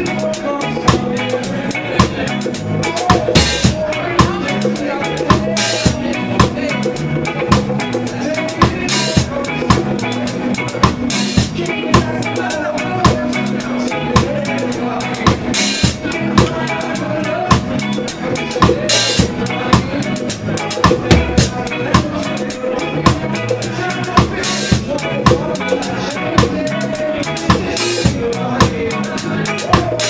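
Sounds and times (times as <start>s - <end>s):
live reggae band playing: 0.0s - 30.0s.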